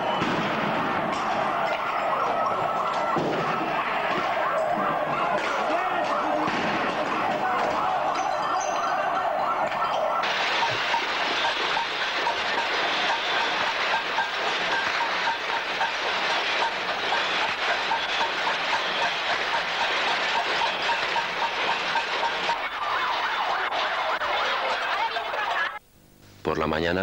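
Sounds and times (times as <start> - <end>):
people banging pots and pans: 0.0 - 25.8.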